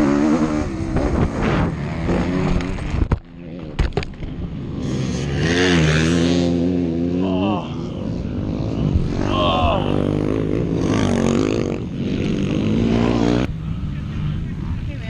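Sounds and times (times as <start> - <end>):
dirt bike engine running: 0.0 - 15.0
motocross bikes revving past: 0.0 - 15.0.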